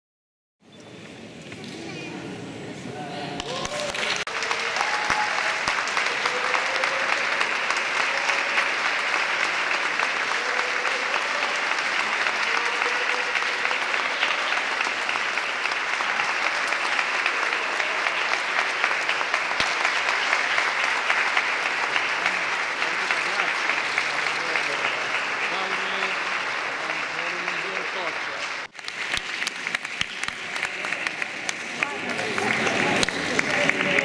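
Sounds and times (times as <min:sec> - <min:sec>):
faint voices in crowd: 0:00.9 - 0:34.0
large audience applauding: 0:03.4 - 0:34.0.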